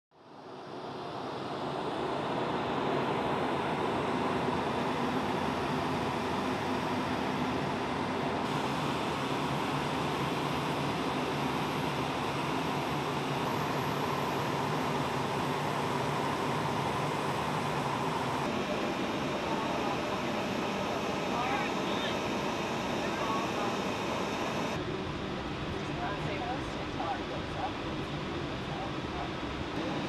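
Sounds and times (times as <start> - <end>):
jet engines running: 0.2 - 30.0
faint high whine: 0.3 - 30.0.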